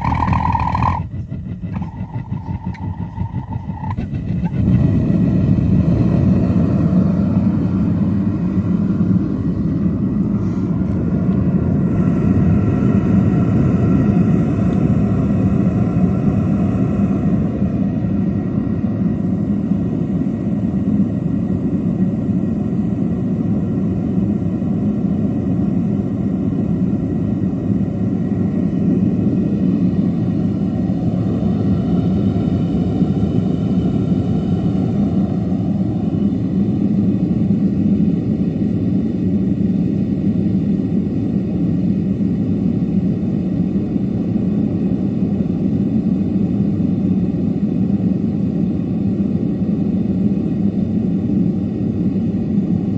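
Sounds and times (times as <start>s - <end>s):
furnace burner roaring: 0.0s - 52.9s.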